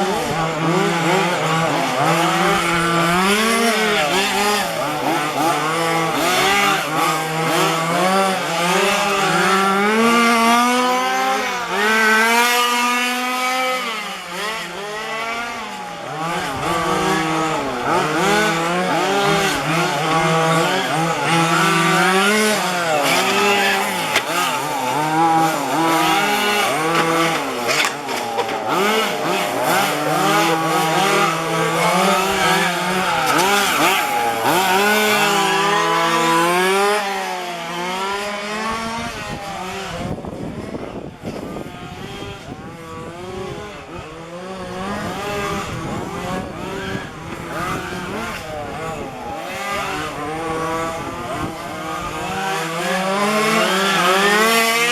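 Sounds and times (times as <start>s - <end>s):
small two-stroke engines revving: 0.0s - 54.9s.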